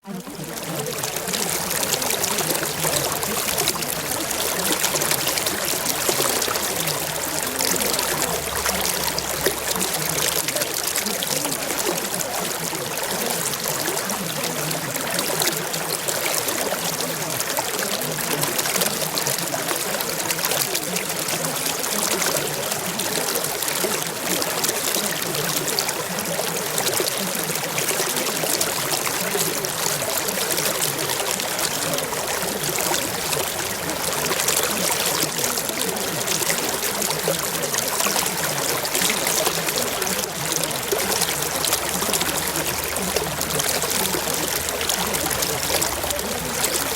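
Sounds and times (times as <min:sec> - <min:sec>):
running water: 0:00.0 - 0:46.9.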